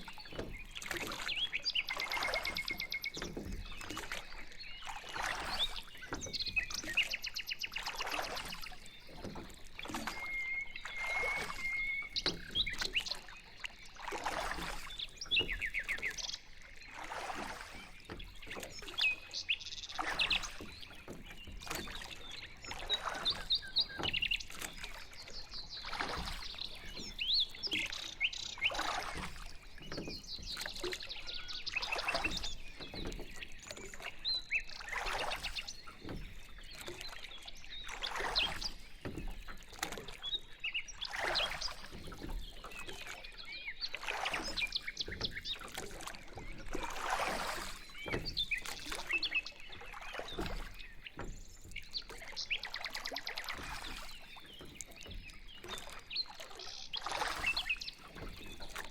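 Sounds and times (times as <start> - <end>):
paddle splashing water: 0.0 - 58.9
small birds chirping: 0.0 - 58.9.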